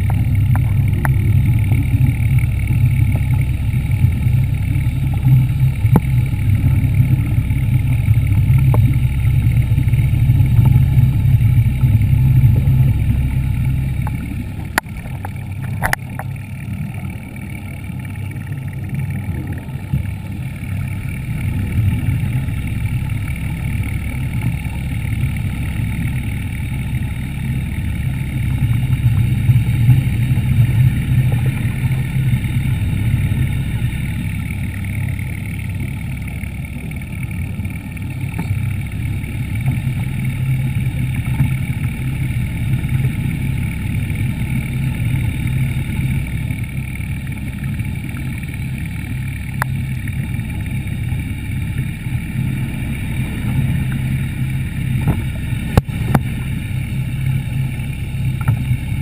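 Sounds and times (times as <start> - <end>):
underwater scooter running: 0.0 - 59.0.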